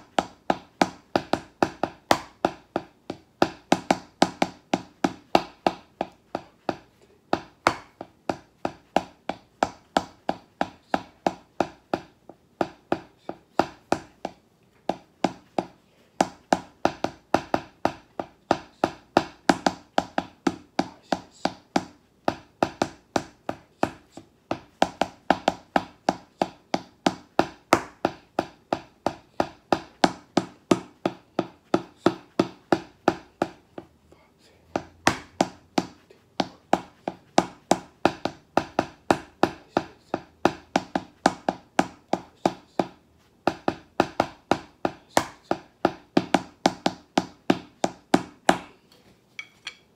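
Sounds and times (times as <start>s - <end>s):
drumsticks tapping practice pad: 0.0s - 34.0s, 34.6s - 48.8s.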